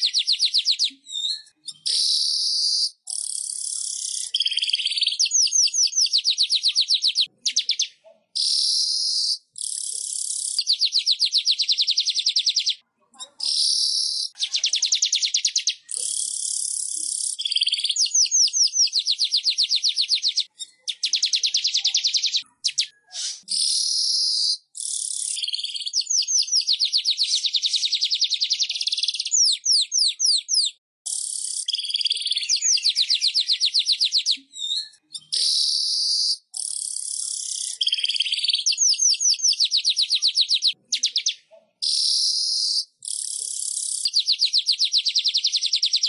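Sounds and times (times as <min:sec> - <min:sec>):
weaver bird song: 0:00.0 - 0:12.8, 0:13.4 - 0:46.0.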